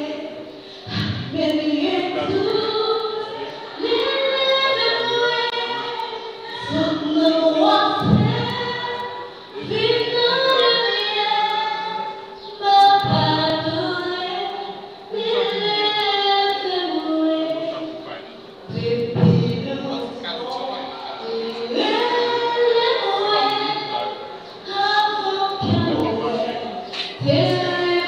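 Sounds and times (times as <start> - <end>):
woman singing into a microphone: 0.0 - 28.0.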